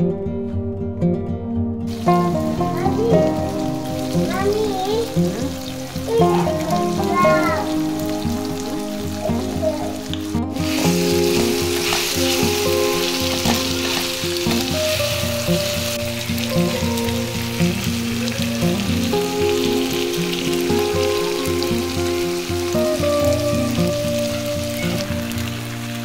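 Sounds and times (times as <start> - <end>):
background music: 0.0 - 26.0
meat and tomatoes sizzling in a pan: 1.9 - 26.0.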